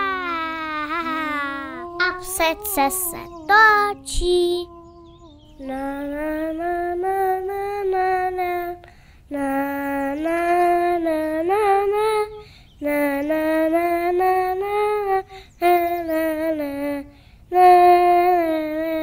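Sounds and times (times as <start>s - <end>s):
high voice singing wordless tune: 0.0s - 19.0s.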